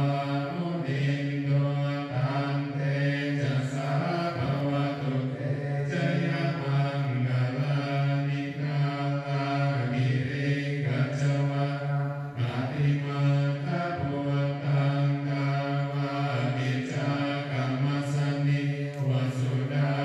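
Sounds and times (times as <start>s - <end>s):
group of low voices chanting: 0.0s - 20.0s.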